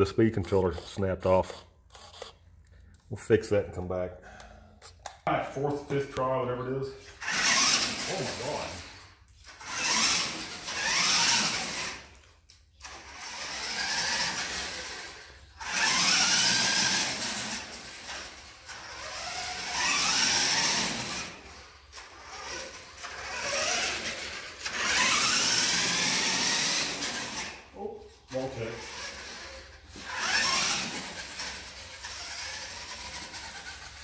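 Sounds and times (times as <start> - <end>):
toy truck electric motor whining: 0.4 - 2.5, 7.0 - 27.7, 28.3 - 34.0.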